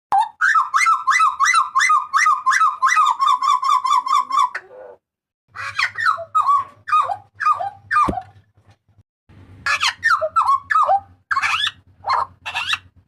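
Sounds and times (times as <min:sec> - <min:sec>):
bird calling loudly: 0:00.2 - 0:08.4, 0:09.7 - 0:13.0.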